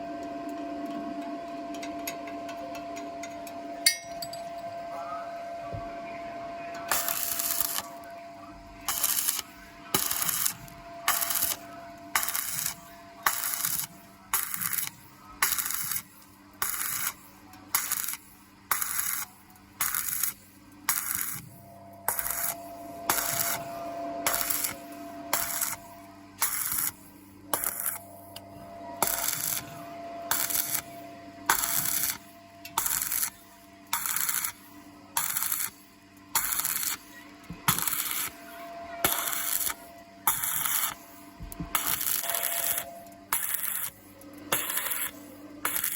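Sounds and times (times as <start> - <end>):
welding arc crackling: 6.9 - 8.1, 8.8 - 45.9.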